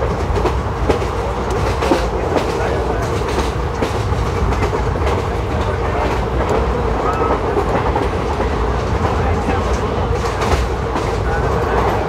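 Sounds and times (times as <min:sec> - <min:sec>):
train wheels rumbling over rails: 0:00.0 - 0:12.0
wheels clicking over rail joints: 0:00.0 - 0:12.0.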